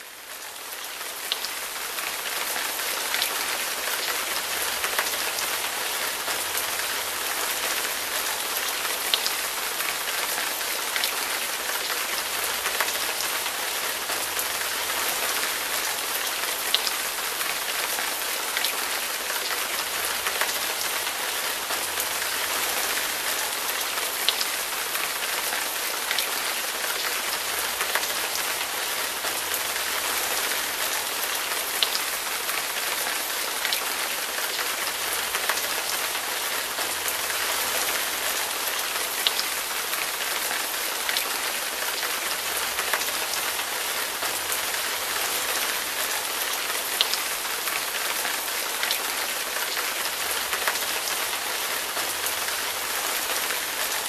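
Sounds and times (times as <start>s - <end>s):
hard rain falling: 0.0s - 54.0s.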